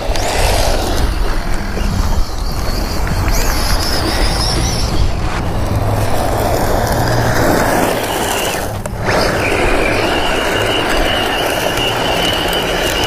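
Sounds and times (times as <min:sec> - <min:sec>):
rc truck motor whining: 0:00.0 - 0:13.0
thin high whine: 0:00.0 - 0:13.0
tyres spraying dirt: 0:00.0 - 0:13.0
wind buffeting microphone: 0:00.0 - 0:13.0.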